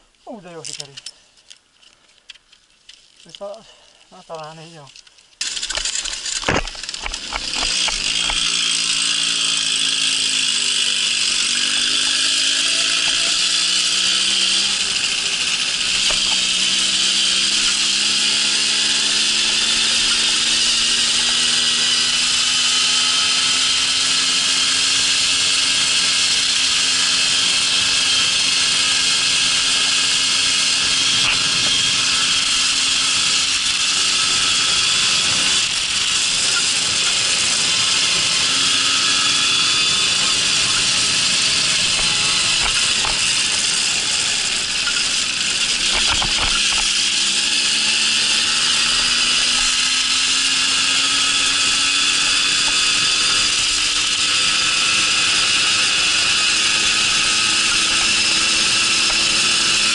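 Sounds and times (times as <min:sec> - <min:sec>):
moped two-stroke engine running: 0:05.4 - 0:59.9.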